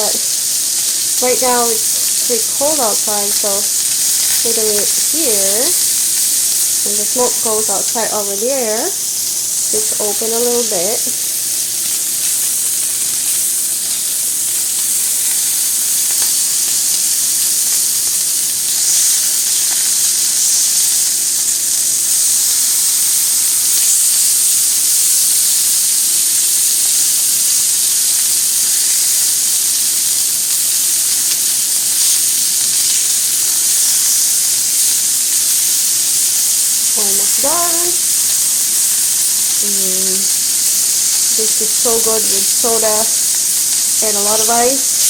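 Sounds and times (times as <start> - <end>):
meat sizzling on a grill: 0.0 - 45.0.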